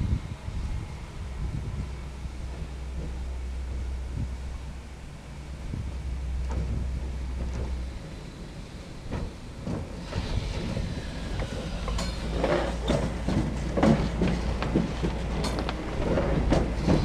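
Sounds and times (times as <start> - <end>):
locomotives rumbling past: 0.0 - 17.0
wheels clattering on track: 1.7 - 17.0.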